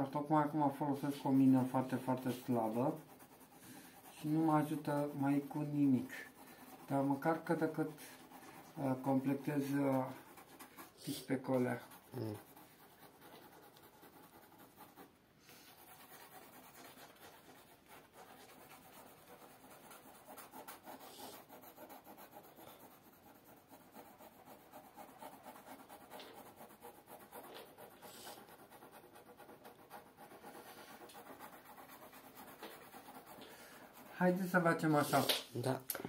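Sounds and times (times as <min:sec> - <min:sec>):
pencil scratching on paper: 0:00.0 - 0:35.4.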